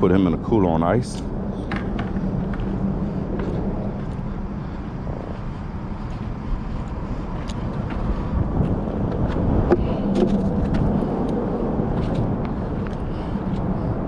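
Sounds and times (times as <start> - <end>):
low hum: 0.0 - 14.0
road traffic rumble: 0.0 - 14.0.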